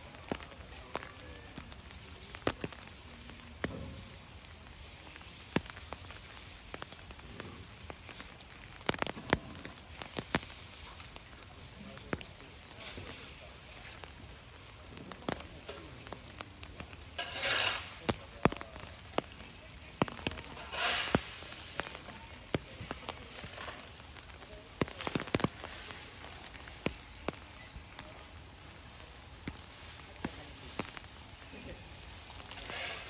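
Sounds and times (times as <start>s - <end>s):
light rain: 0.0s - 33.0s.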